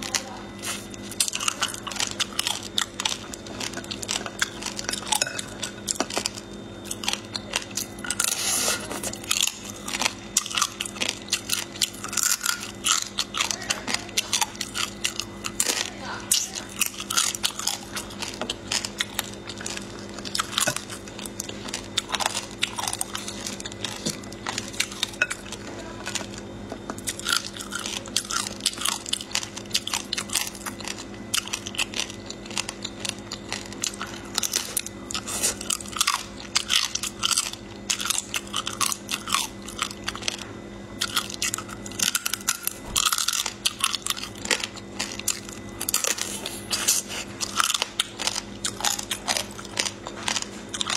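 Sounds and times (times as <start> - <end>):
wet chewing: 0.0 - 50.9.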